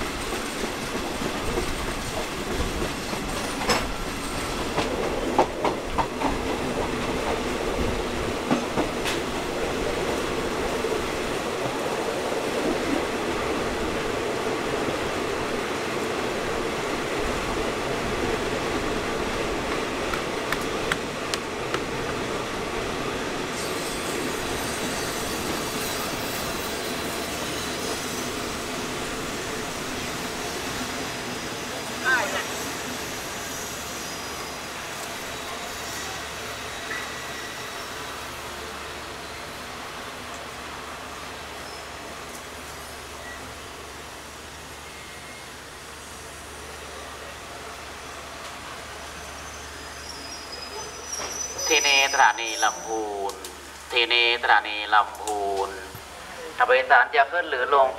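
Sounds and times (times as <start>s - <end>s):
train wheels rumbling on rail: 0.0s - 54.1s.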